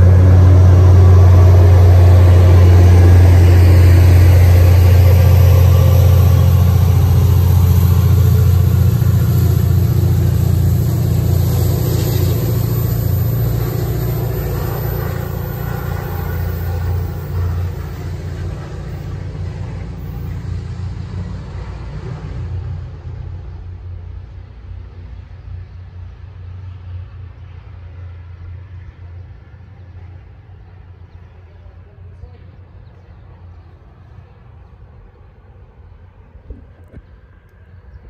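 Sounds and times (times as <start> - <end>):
diesel locomotive drone: 0.0 - 38.0.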